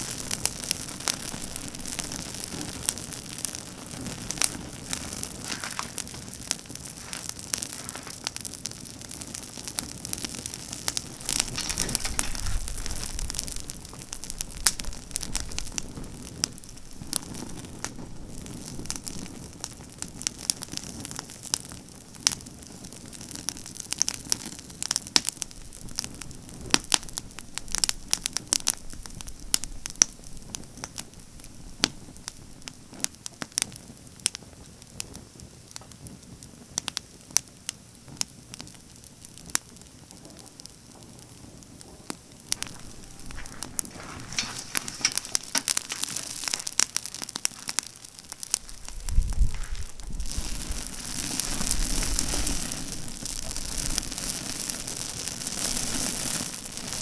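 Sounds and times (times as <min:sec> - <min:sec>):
rushing flame: 0:00.0 - 0:34.1, 0:38.4 - 0:57.0
campfire crackling and popping: 0:00.0 - 0:57.0.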